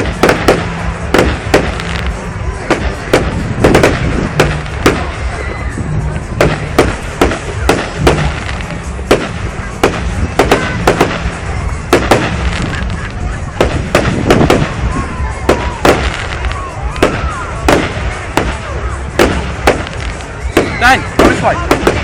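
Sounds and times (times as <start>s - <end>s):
fireworks bangs and pops: 0.0s - 22.0s
low rumble: 0.0s - 22.0s.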